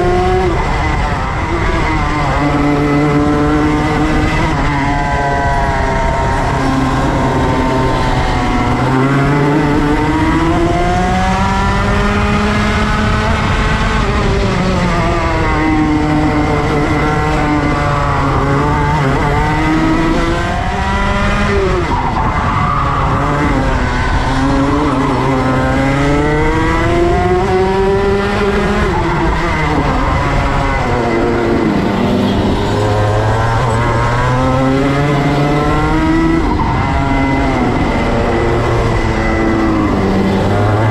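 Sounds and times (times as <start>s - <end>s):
racing kart engine: 0.0s - 40.9s.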